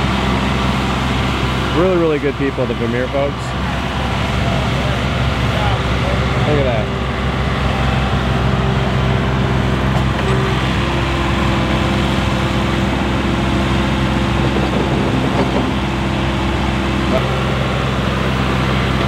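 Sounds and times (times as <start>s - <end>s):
construction machine engines droning: 0.0s - 19.0s.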